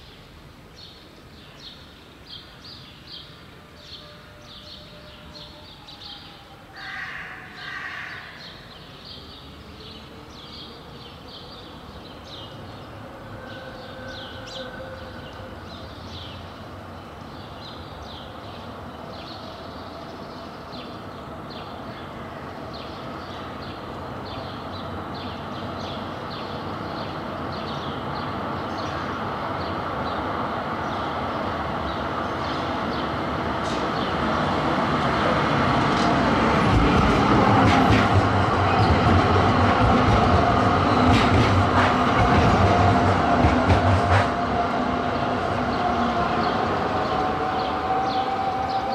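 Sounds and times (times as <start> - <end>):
tram rolling on rails: 0.0 - 48.9.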